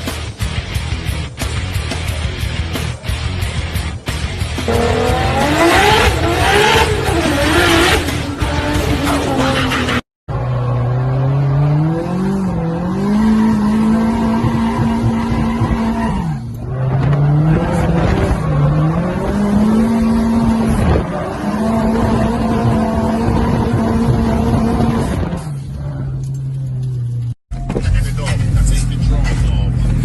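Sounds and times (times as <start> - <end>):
car engine revving: 3.4 - 30.0.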